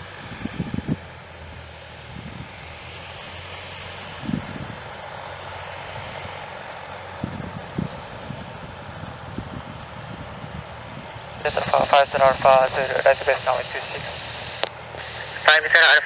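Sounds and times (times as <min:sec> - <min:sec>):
propeller plane engine humming: 0:00.0 - 0:16.0.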